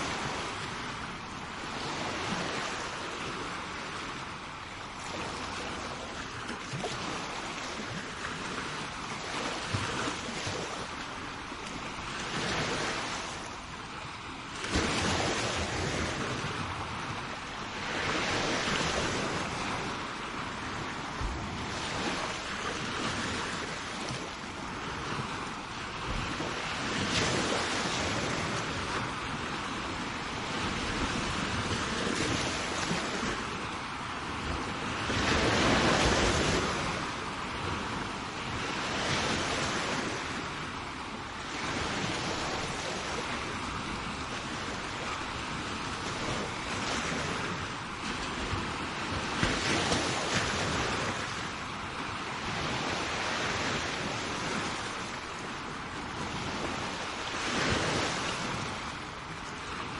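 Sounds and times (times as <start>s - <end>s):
sea waves breaking on shore: 0.0s - 59.9s
wind on microphone: 0.0s - 59.9s.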